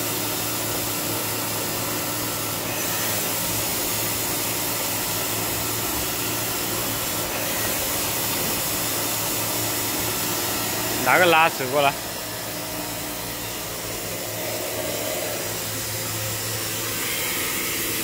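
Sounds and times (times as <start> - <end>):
band saw motor whirring: 0.6 - 18.0.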